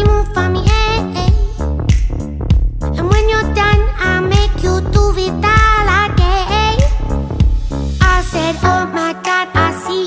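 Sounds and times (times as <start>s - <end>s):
kick drum beat: 0.0s - 8.2s
upbeat song with high vocals: 0.0s - 10.0s.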